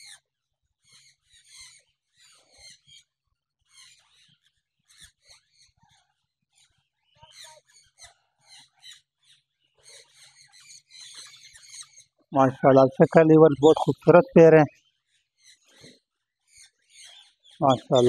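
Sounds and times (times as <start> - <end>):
parrots and birds chirping: 0.0 - 18.0.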